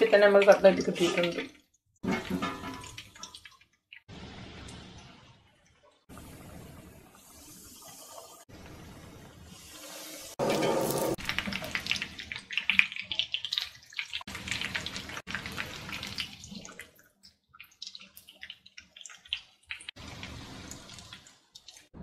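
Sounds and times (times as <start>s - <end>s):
chicken frying in oil: 2.0s - 22.0s.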